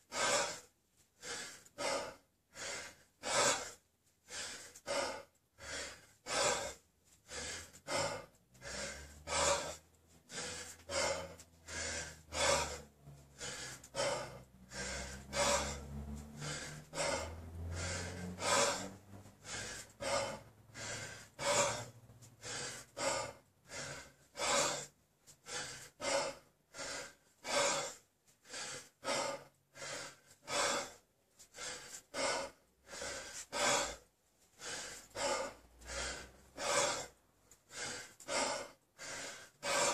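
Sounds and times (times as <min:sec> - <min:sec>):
man breathing hard: 0:00.0 - 0:39.9.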